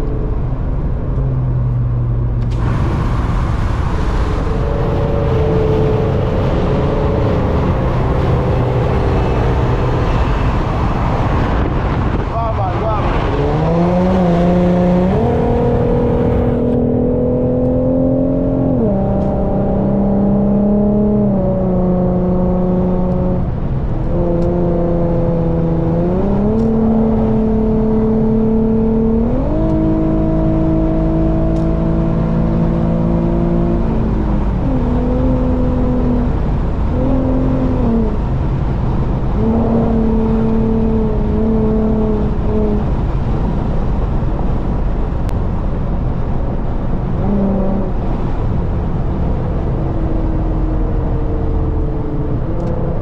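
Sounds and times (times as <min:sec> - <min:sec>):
car engine hum: 0:00.0 - 0:53.0
road noise rumble: 0:00.0 - 0:53.0.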